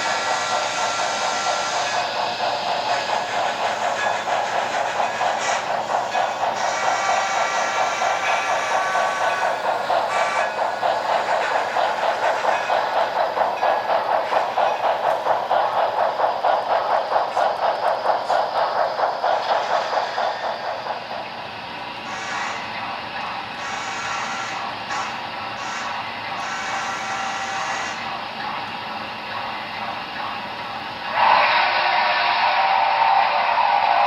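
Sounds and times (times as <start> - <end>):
model steam locomotive chuffing: 0.0 - 34.0.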